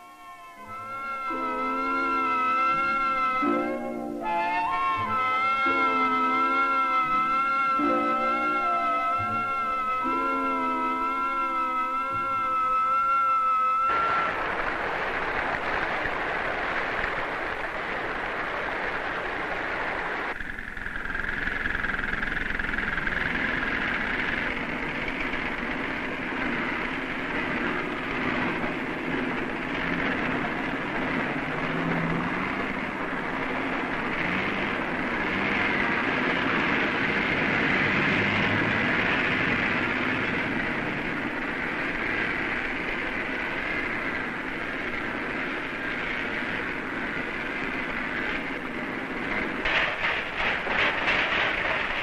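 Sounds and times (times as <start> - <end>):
heavy machinery running: 0.0 - 52.0.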